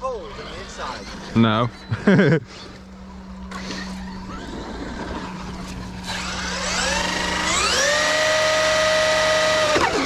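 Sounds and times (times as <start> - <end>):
electric motor whine rising: 1.8 - 10.0.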